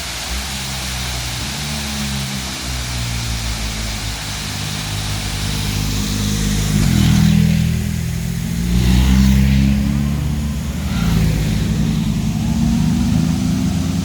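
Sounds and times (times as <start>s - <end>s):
vehicle engine running: 0.0s - 14.0s
waterfall rushing: 0.0s - 14.0s.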